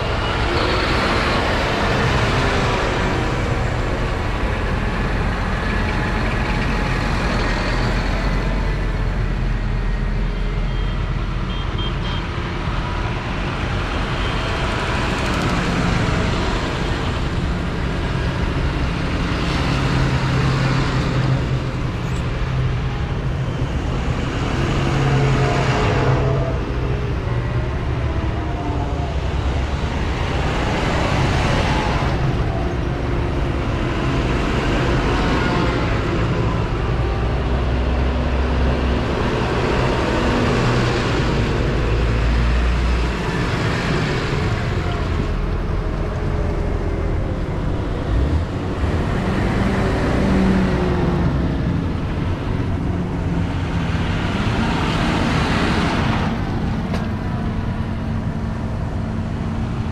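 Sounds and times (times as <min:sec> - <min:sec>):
tractors driving past: 0:00.0 - 0:59.9.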